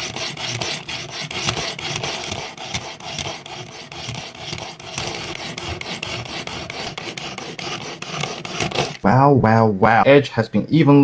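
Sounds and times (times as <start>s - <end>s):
sharpening stone rasping on blade: 0.0s - 9.0s.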